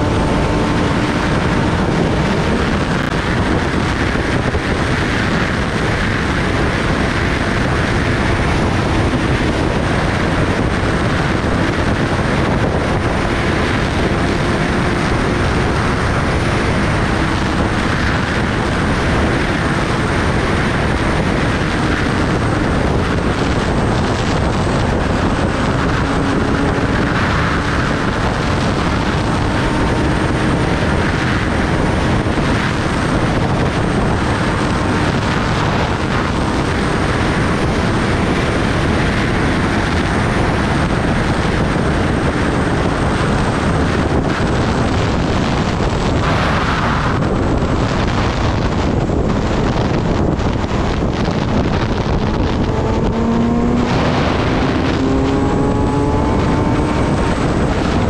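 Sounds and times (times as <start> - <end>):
loud wind rush: 0.0 - 58.0
motorcycle engine cruising: 0.0 - 58.0.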